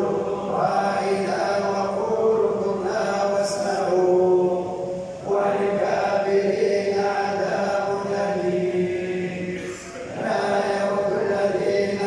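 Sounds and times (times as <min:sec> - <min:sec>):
men chanting a recitation: 0:00.0 - 0:12.0.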